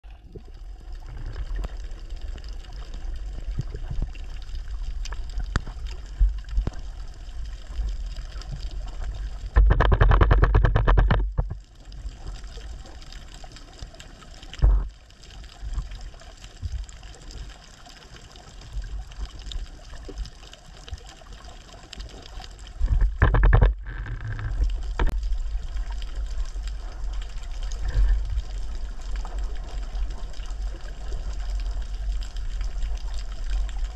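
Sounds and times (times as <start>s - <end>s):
underwater low rumble: 0.0s - 33.9s
faint clicking: 0.3s - 33.9s.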